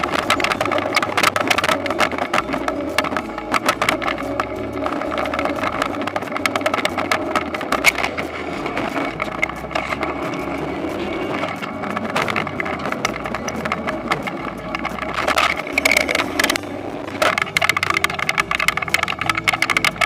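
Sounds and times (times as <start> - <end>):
harvester engine running: 0.0 - 20.0
machine clattering and rattling: 0.0 - 20.0.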